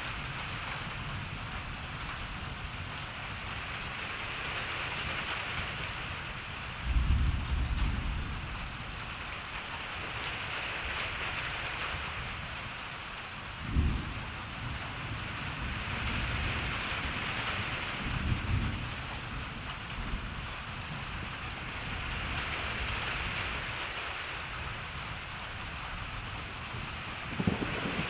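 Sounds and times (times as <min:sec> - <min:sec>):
low rumble of thunder: 0:00.0 - 0:12.8, 0:13.4 - 0:28.0
steady rain: 0:00.0 - 0:28.0.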